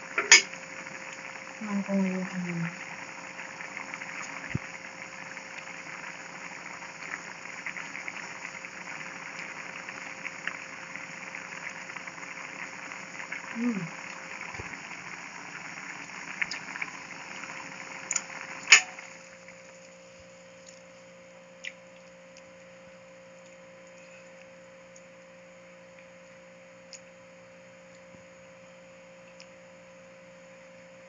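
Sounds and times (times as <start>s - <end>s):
soup boiling with bubbling hiss: 0.0s - 31.0s.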